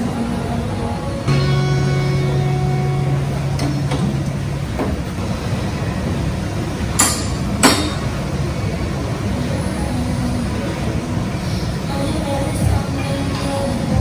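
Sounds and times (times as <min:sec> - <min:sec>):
low room rumble: 0:00.0 - 0:14.0.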